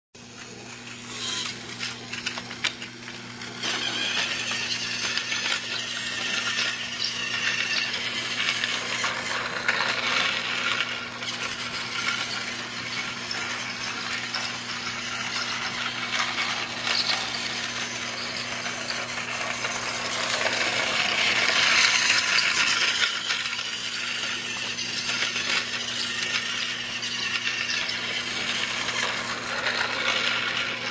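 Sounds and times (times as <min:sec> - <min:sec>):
toy train rattling on track: 0:00.2 - 0:30.9.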